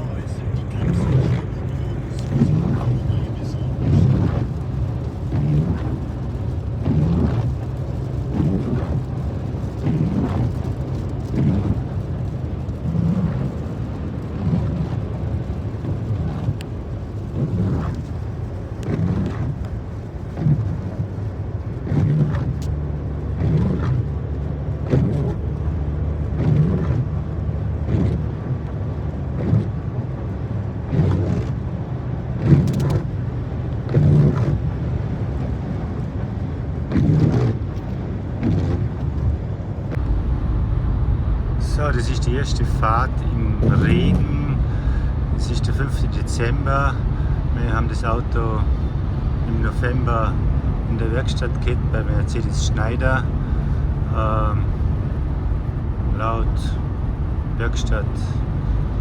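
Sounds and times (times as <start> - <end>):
windscreen wipers squeaking: 0.0 - 30.2, 30.8 - 59.0
car driving rumble: 0.0 - 59.0.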